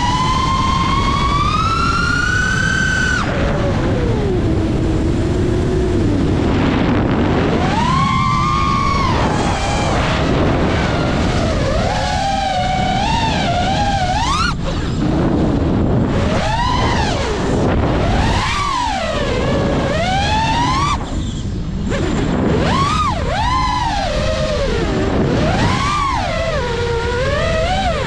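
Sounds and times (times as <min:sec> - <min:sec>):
drone motors whining: 0:00.0 - 0:28.0
wind on microphone: 0:00.0 - 0:28.0.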